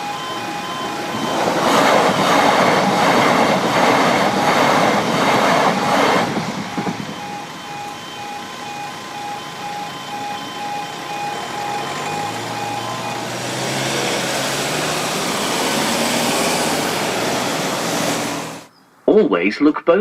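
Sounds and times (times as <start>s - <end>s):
electronic crossing alarm beeping: 0.0s - 18.7s
train wheel and rail noise: 0.0s - 18.7s.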